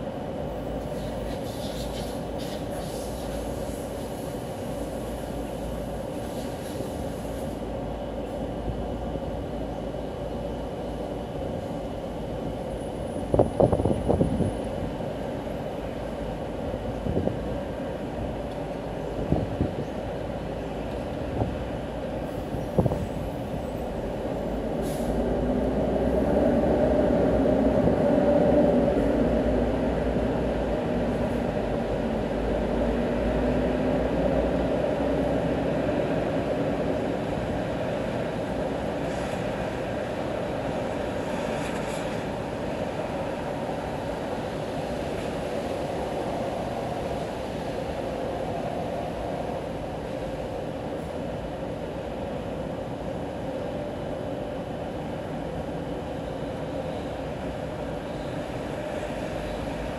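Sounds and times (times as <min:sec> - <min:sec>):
traffic on wet roads: 0:00.4 - 0:07.9, 0:12.7 - 0:53.2, 0:53.9 - 0:59.9.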